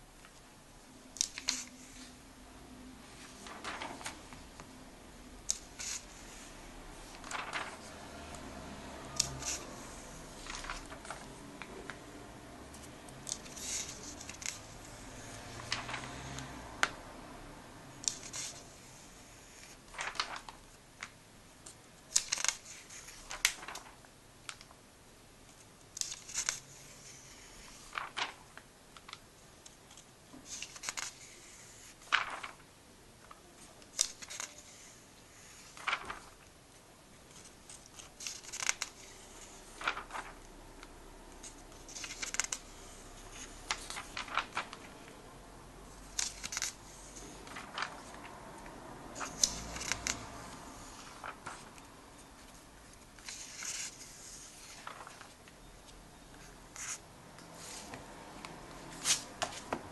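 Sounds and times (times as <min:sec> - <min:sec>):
paper pages turning: 0:01.2 - 0:02.2, 0:03.0 - 0:04.7, 0:05.5 - 0:12.1, 0:12.7 - 0:17.0, 0:18.0 - 0:21.2, 0:22.1 - 0:24.7, 0:25.9 - 0:32.7, 0:33.3 - 0:36.6, 0:37.3 - 0:45.2, 0:46.0 - 0:59.9.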